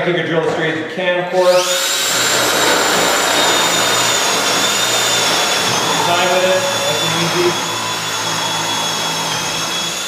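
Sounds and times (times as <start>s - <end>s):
cordless drill whining: 1.3s - 10.0s.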